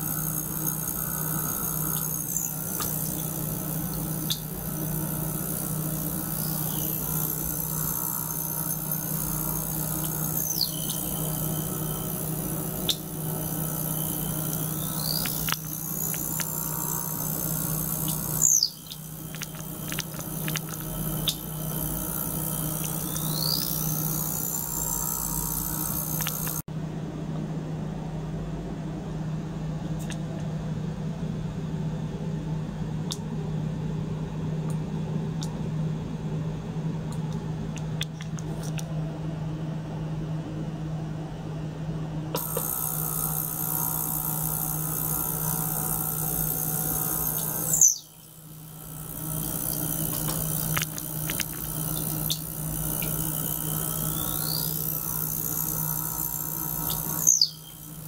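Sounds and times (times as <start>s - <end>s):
pump and ultrasonic cleaner hum: 0.0s - 58.0s.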